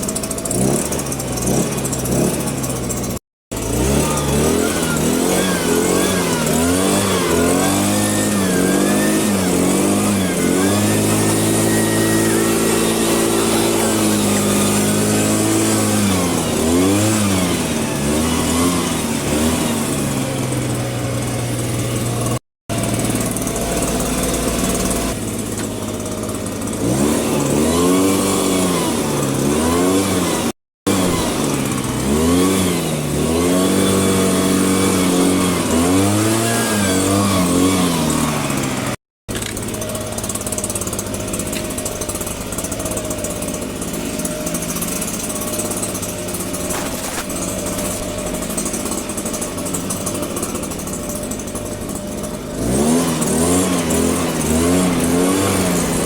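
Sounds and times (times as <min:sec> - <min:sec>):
small two-stroke engine revving: 0:00.0 - 0:56.0.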